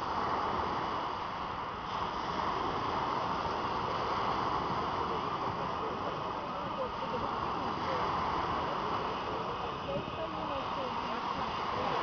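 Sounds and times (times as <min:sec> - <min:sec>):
waves washing over pebble beach: 0:00.0 - 0:12.0.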